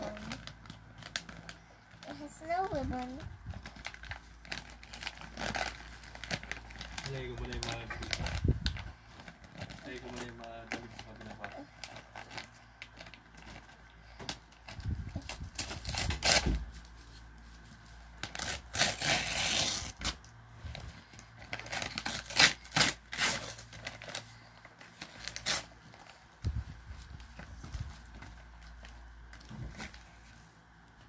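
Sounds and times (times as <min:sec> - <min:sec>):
wrapping paper tearing and rustling: 0:00.0 - 0:30.7.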